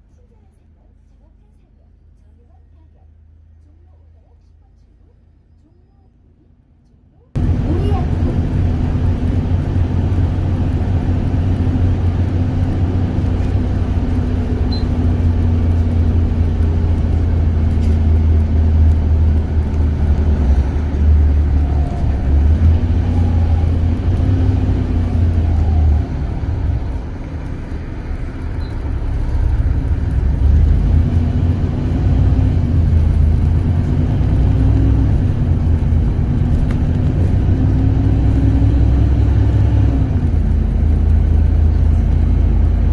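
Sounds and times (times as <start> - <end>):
bus engine and road noise: 0.0 - 42.9.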